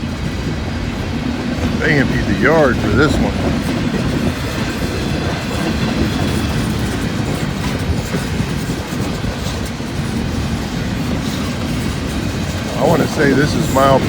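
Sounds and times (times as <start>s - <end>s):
rail joints clickety-clack: 0.0s - 14.0s
train wheels rumbling on rails: 0.0s - 14.0s.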